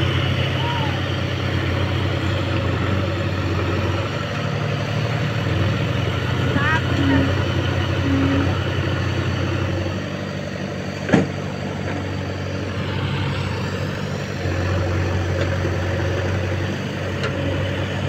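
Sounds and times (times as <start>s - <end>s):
tractor diesel engine under load: 0.0s - 18.0s.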